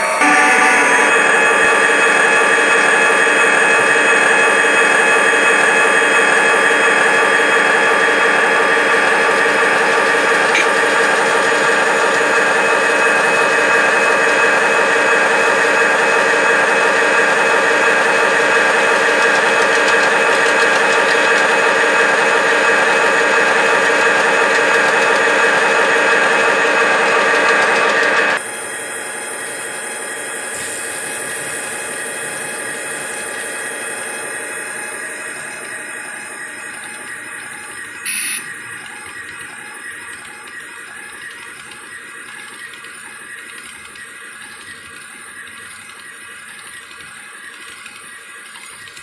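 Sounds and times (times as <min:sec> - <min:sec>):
model locomotive engine drone: 0:00.0 - 0:49.0.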